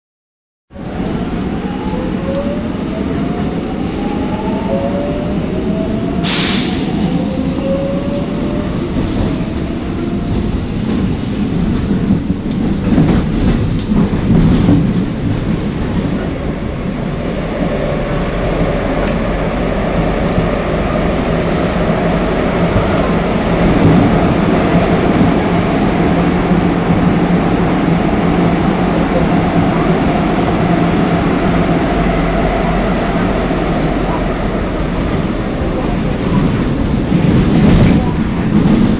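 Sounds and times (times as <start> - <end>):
subway train wheels rumbling: 0.7 - 38.9.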